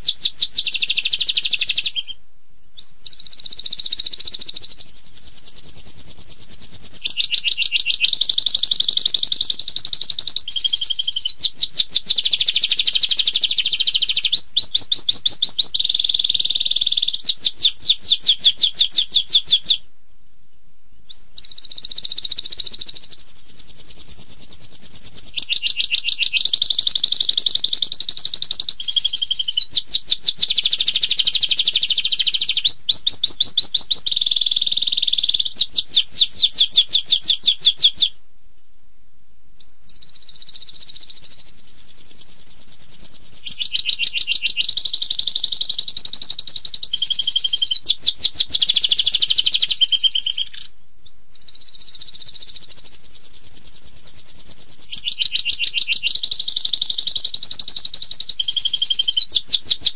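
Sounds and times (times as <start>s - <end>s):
canary singing trills: 0.0s - 19.9s, 21.0s - 38.2s, 39.6s - 59.9s.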